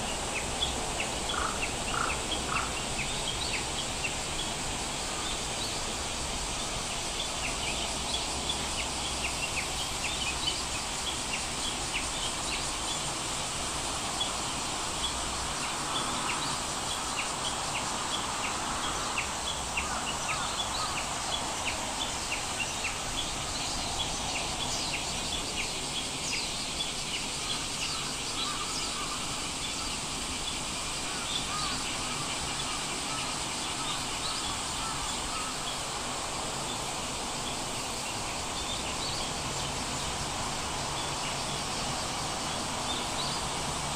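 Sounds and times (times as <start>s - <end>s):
steady background hiss: 0.0s - 43.9s.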